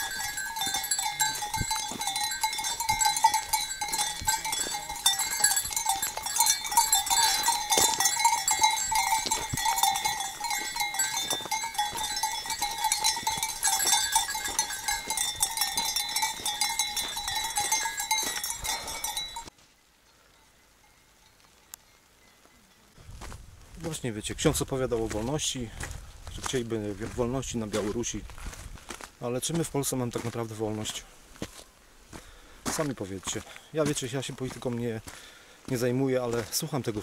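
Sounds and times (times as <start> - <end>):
sheep bells jangling: 0.0 - 23.0, 23.8 - 31.1, 32.6 - 37.0.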